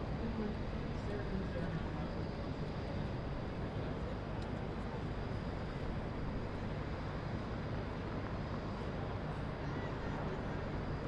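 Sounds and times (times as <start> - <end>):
low rumble of city traffic: 0.0 - 11.0.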